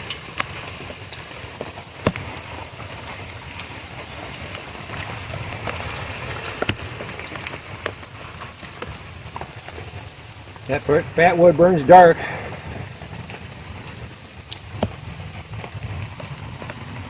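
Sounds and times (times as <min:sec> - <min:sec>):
campfire popping: 0:00.0 - 0:17.0
rain hiss: 0:00.0 - 0:17.0.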